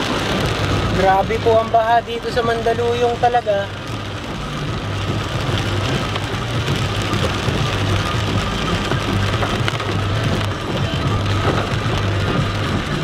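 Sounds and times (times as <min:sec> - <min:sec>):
heavy rain pouring onto street: 0:00.0 - 0:13.0
vehicles driving through water: 0:00.0 - 0:13.0.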